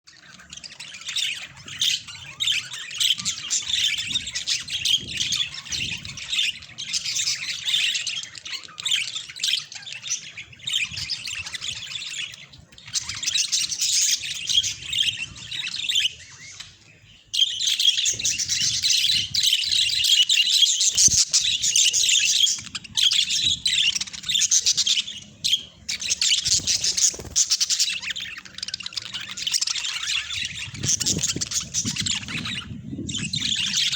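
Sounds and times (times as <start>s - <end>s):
budgerigars chattering and chirping: 0.1s - 33.9s.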